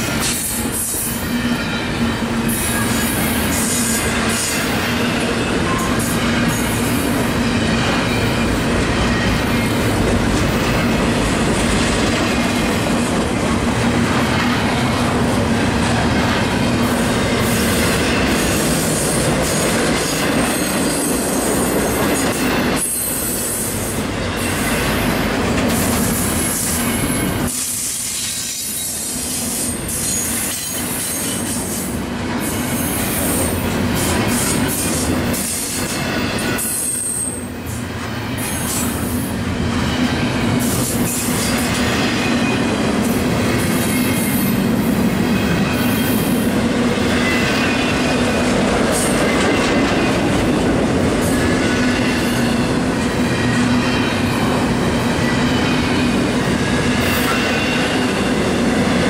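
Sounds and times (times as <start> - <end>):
freight train wheels rumbling and clattering: 0.0 - 59.0.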